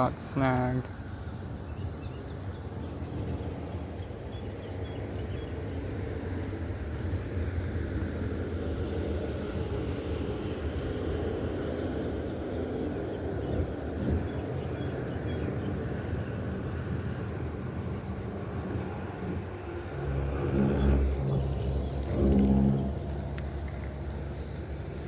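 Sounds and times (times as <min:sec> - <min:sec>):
low engine rumble: 0:00.0 - 0:25.0
louder engine hum: 0:02.7 - 0:25.0.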